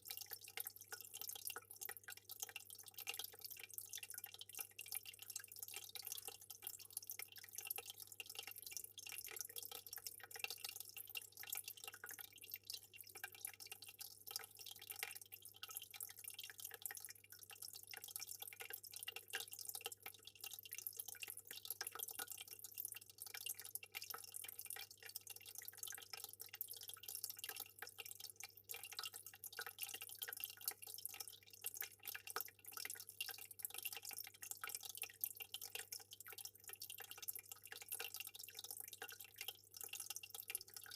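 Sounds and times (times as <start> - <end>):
aquarium water trickling and bubbling: 0.0 - 40.9.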